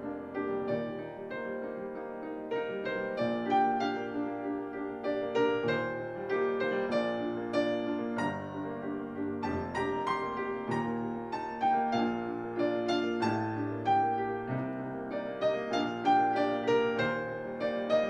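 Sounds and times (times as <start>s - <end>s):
gentle classical piano piece: 0.0s - 18.0s.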